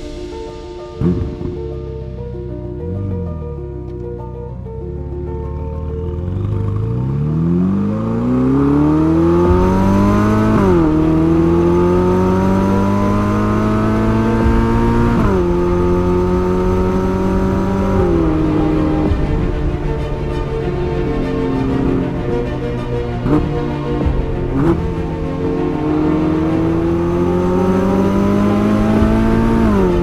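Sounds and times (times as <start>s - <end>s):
car engine accelerating: 1.0s - 1.8s, 2.8s - 30.0s.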